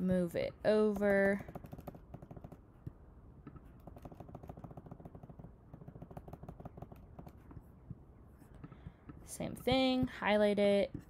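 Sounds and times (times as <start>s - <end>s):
rapid keyboard tapping: 0.7s - 11.0s.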